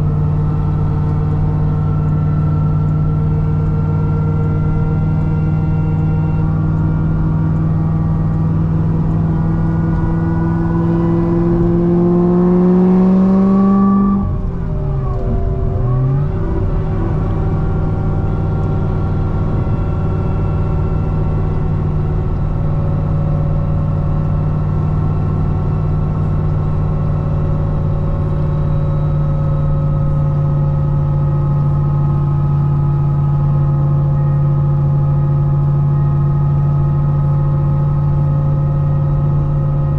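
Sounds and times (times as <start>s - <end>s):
car engine droning at speed: 0.0s - 39.9s.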